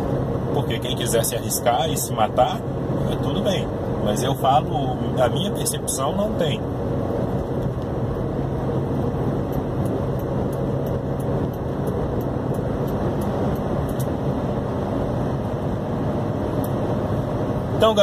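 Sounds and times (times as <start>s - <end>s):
car cabin road noise: 0.0s - 18.0s.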